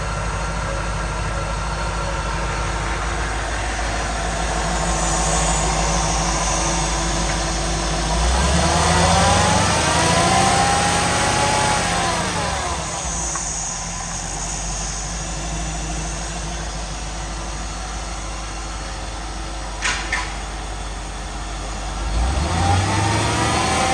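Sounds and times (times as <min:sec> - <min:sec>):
engine idling and revving: 0:00.0 - 0:23.9.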